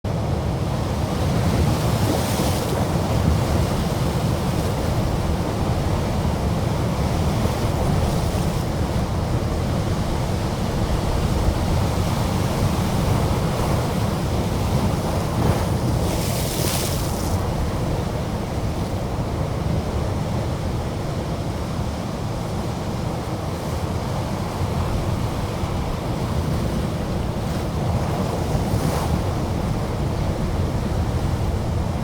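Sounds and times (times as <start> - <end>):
surf and wind rushing: 0.1 - 32.0.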